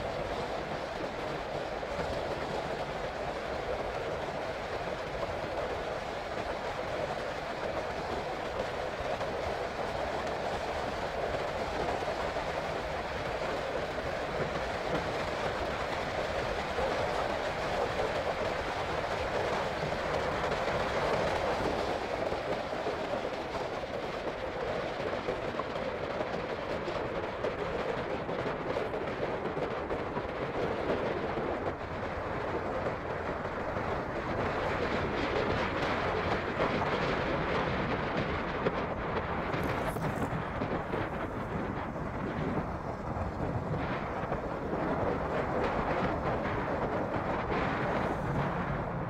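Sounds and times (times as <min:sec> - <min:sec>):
motorcycle road noise: 0:00.0 - 0:49.0
wind rush: 0:00.0 - 0:49.0.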